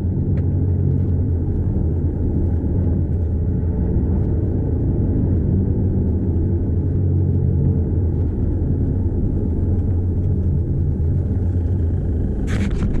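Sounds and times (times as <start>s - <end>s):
car engine and tyres droning: 0.0s - 13.0s.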